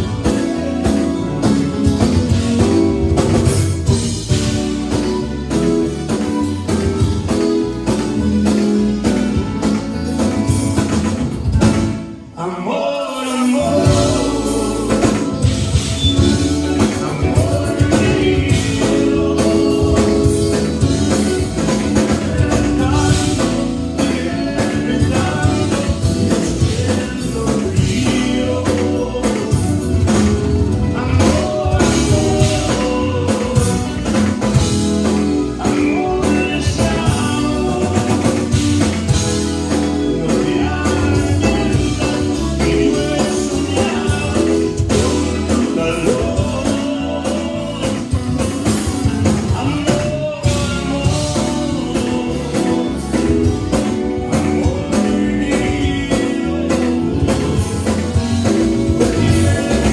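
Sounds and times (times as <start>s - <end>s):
accordion: 0.0s - 59.9s
live band playing: 0.0s - 59.9s
man singing: 11.6s - 59.9s.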